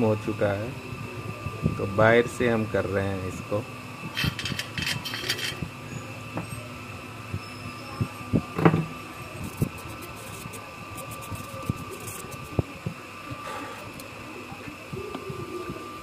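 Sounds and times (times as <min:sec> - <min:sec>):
faint constant whine: 0:00.0 - 0:16.0
workbench equipment humming: 0:00.0 - 0:16.0.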